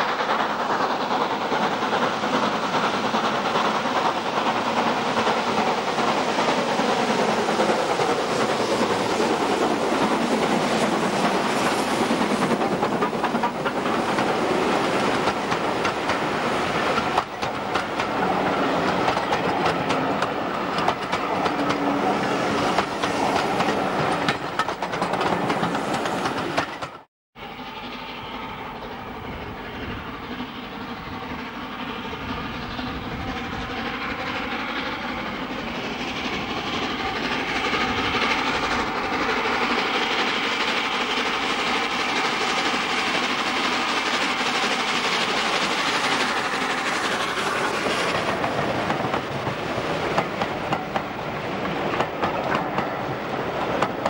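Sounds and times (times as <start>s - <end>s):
steam locomotive exhaust: 0.0s - 24.7s, 27.4s - 54.0s
distant steam train: 0.0s - 54.0s.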